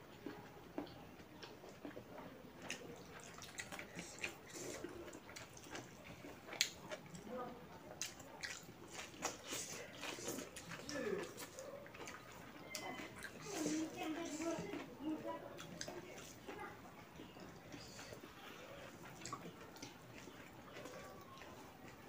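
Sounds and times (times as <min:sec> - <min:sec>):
wet chewing and lip smacks: 0:00.2 - 0:22.0.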